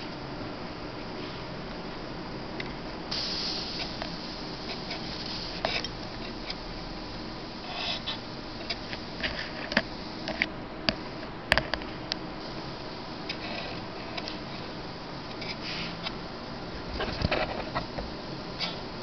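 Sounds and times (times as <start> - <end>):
plasma discharge hum and hiss: 0.0 - 19.0
sharp electric crackles: 0.0 - 19.0.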